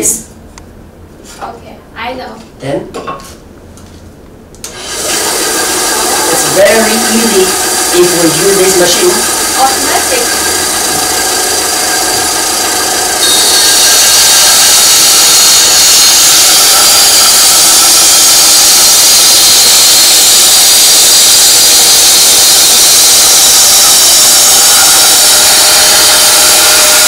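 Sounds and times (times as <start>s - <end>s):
band saw cutting wood: 4.7s - 27.0s
band saw running: 4.7s - 27.0s.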